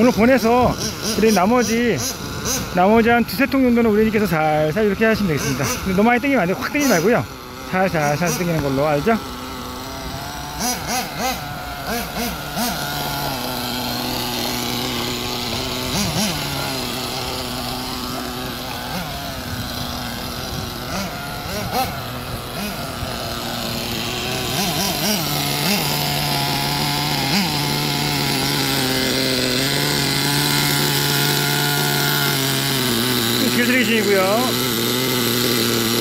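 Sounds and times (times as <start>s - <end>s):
small nitro engine revving: 0.0s - 36.0s.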